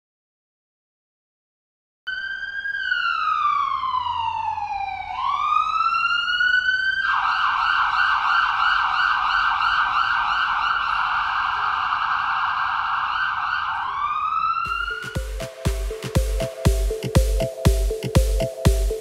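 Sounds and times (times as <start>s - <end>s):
ambulance siren wailing: 2.1s - 19.0s.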